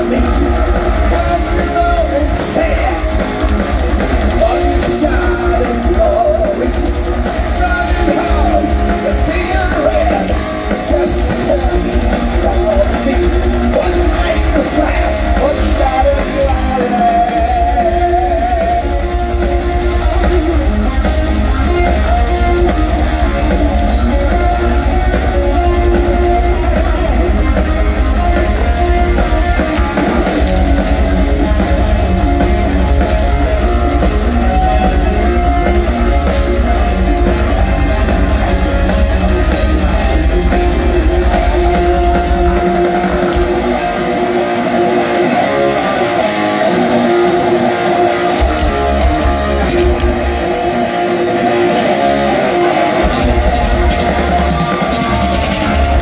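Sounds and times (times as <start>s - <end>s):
distorted electric guitars: 0.0s - 56.0s
heavy drum beat: 0.0s - 56.0s
heavy metal band playing live: 0.0s - 56.0s.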